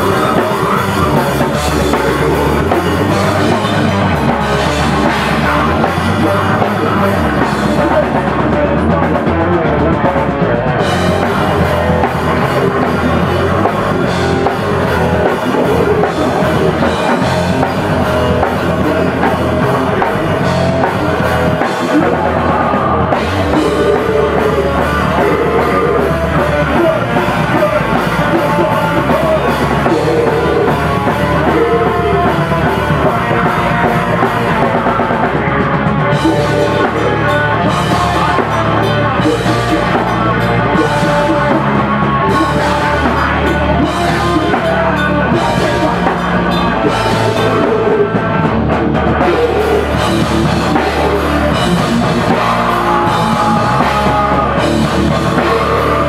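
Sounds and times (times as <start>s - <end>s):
amplified electric guitars: 0.0s - 56.0s
pounding drum kit: 0.0s - 56.0s
rock band playing: 0.0s - 56.0s.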